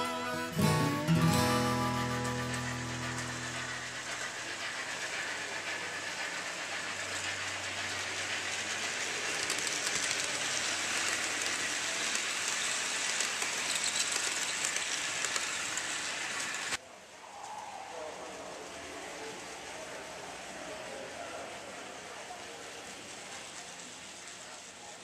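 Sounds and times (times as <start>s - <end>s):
model train wheels rattling on track: 0.0s - 16.8s, 18.4s - 25.0s.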